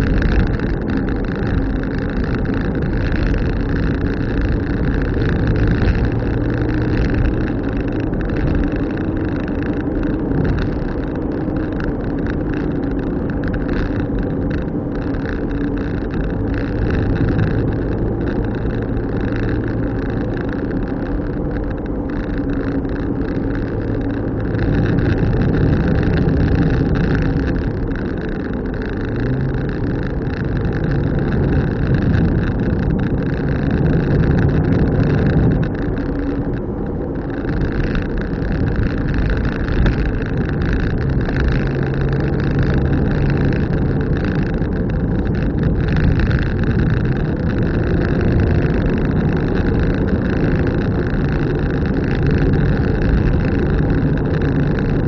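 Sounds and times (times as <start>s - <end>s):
car engine hum: 0.0s - 55.0s
road and tyre noise: 0.0s - 55.0s.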